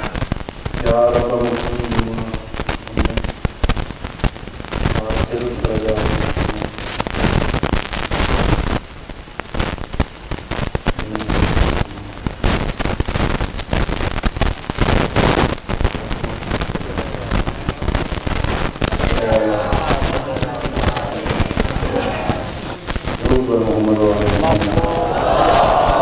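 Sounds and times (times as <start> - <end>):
dense crackling and popping: 0.0 - 26.0.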